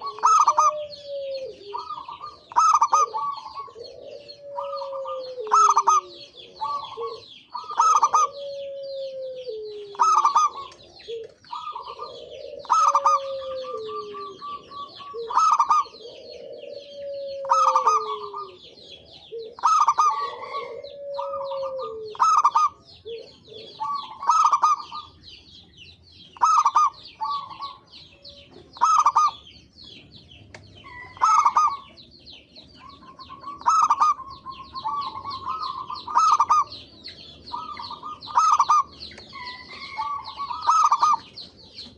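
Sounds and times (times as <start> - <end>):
dove cooing: 0.0 - 41.9
small birds chirping: 0.0 - 41.9.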